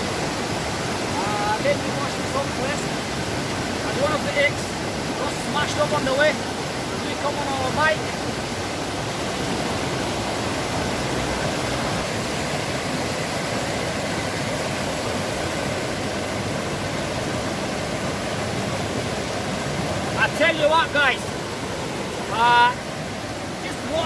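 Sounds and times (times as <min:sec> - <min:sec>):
mountain water rushing: 0:00.0 - 0:24.0.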